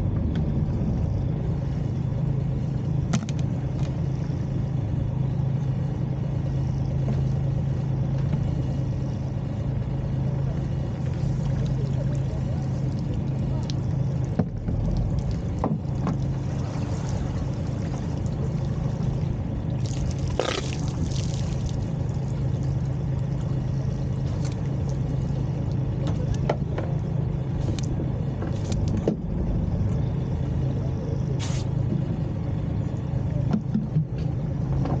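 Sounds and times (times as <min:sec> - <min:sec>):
boat engine idling: 0:00.0 - 0:35.0.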